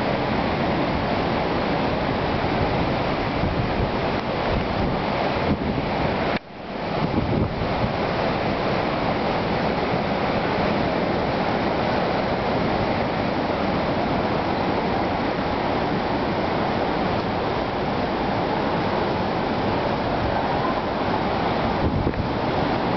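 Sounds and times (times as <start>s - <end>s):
heavy surf breaking: 0.0s - 22.9s
wind buffeting microphone: 0.0s - 22.9s.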